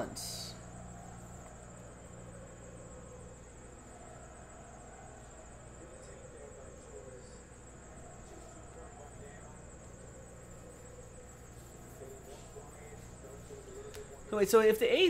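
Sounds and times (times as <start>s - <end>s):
faint high-pitched whine: 0.0s - 15.0s
low electrical hum and hiss: 0.0s - 15.0s.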